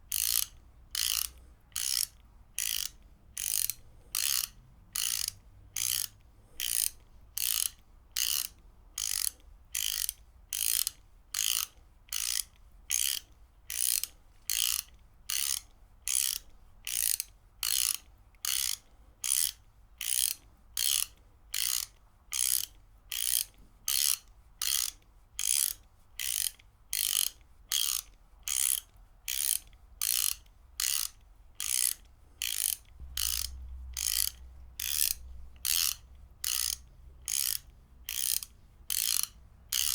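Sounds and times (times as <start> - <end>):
ratchet wrench clicking: 0.1 - 39.9.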